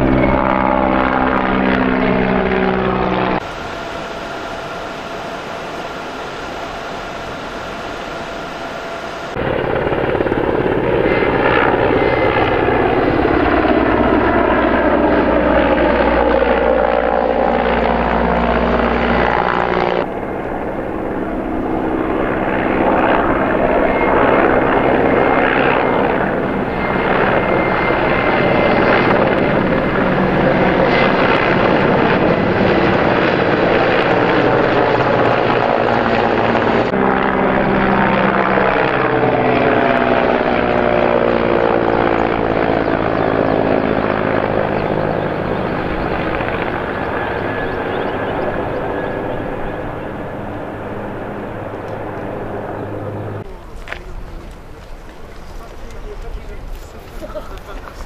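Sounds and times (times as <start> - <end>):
helicopter flying over: 0.0 - 58.0.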